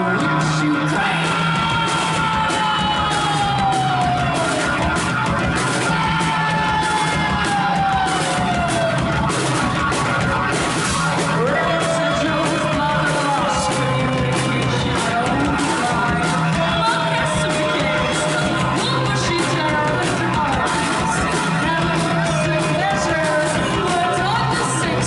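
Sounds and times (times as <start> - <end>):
cymbal-heavy drums: 0.0 - 25.0
distorted guitars: 0.0 - 25.0
yelled vocals: 0.0 - 25.0.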